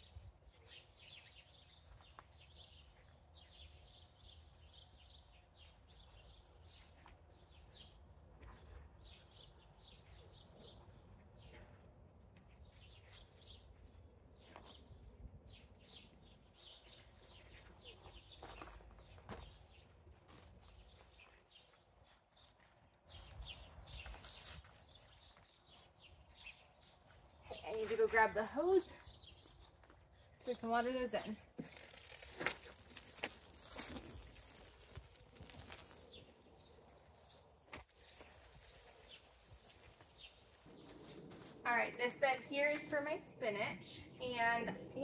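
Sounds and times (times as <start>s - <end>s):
small birds chirping: 0.0s - 41.3s.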